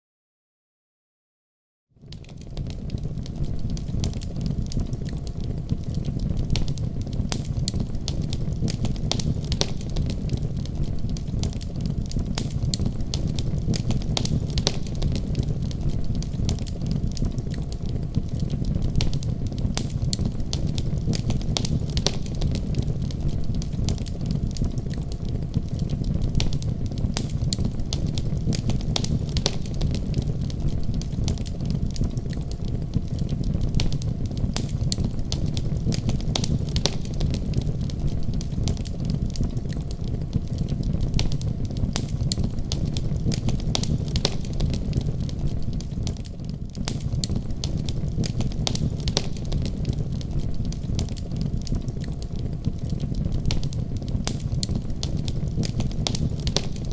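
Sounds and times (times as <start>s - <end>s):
logs crackling and popping: 2.1s - 56.9s
fire rushing in a stove: 2.2s - 56.9s.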